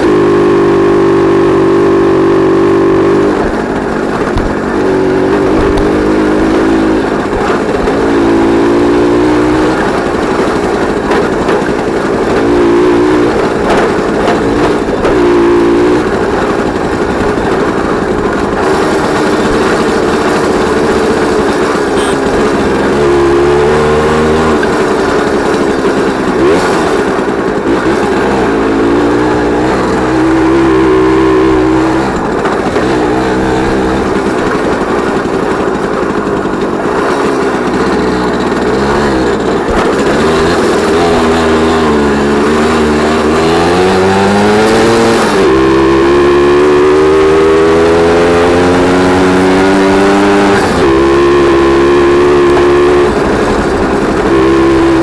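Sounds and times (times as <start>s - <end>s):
moped two-stroke engine running: 0.0s - 55.0s.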